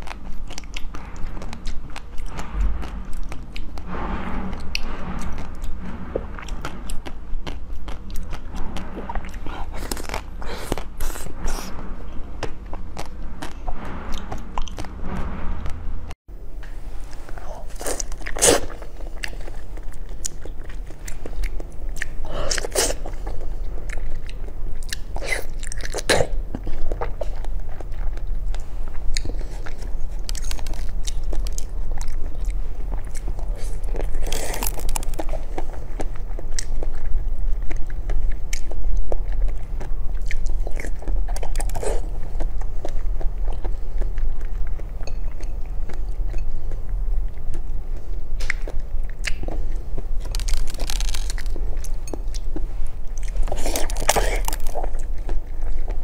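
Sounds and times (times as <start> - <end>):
biting and chewing fruit: 0.0 - 15.1, 17.2 - 56.0.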